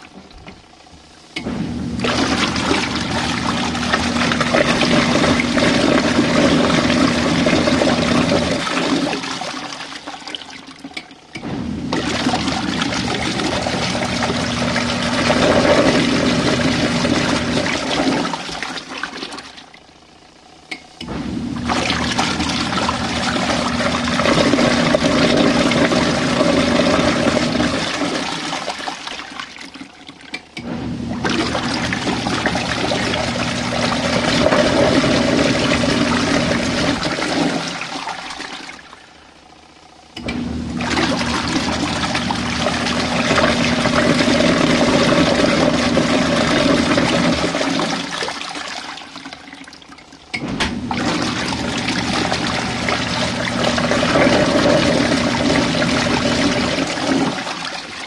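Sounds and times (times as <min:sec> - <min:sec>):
motor hum: 0:00.0 - 0:58.0
washing machine churning water: 0:00.0 - 0:58.0.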